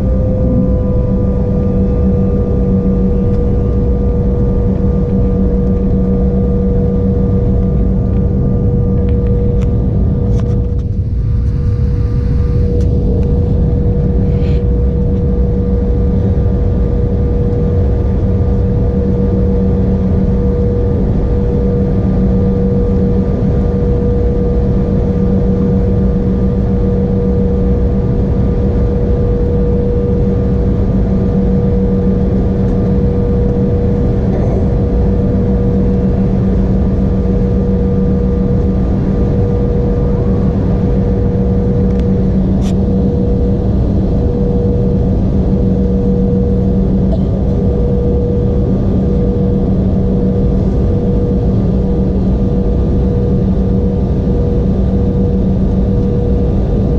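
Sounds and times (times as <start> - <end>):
airliner cabin engine drone: 0.0 - 56.9.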